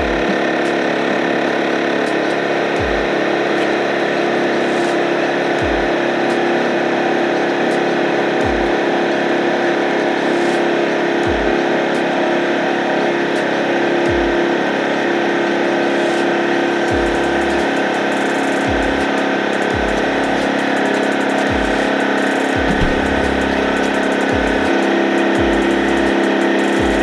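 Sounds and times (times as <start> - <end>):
motor droning: 0.0 - 27.0.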